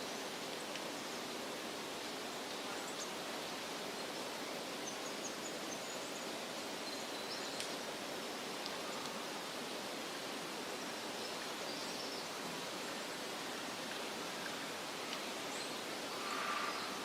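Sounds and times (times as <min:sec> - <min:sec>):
wind rustling leaves: 0:00.0 - 0:17.0.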